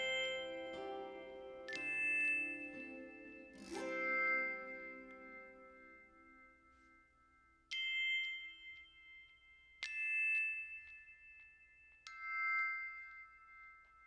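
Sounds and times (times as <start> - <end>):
ringing bell-like chimes: 0.0 - 14.0.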